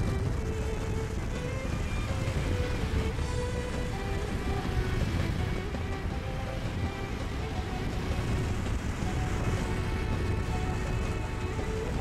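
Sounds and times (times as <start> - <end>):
heavy rain rushing: 0.0 - 12.0
music with long held notes: 0.0 - 12.0.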